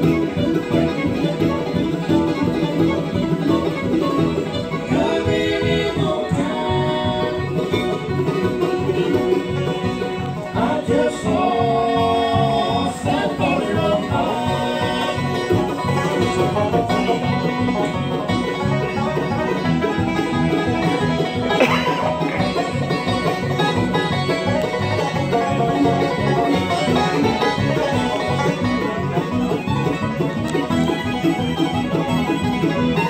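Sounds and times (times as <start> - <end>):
acoustic guitar: 0.0 - 33.0
banjo: 0.0 - 33.0
mandolin: 0.0 - 33.0
resonator guitar: 0.0 - 33.0.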